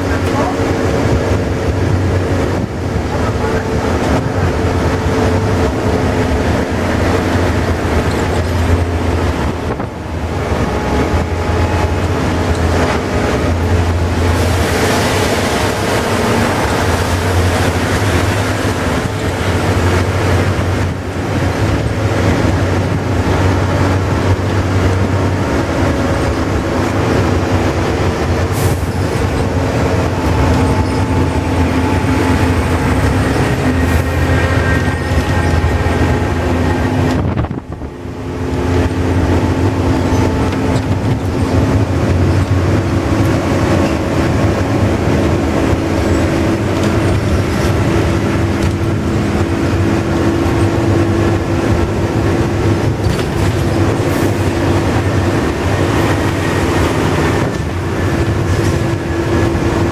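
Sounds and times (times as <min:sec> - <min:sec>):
bus diesel engine drone: 0:00.0 - 0:59.9
road noise: 0:00.0 - 0:59.9.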